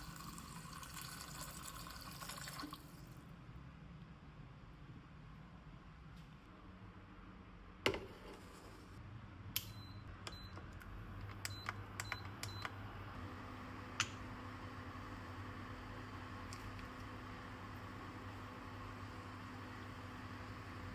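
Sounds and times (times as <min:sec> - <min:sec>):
low appliance hum: 0:00.0 - 0:20.9.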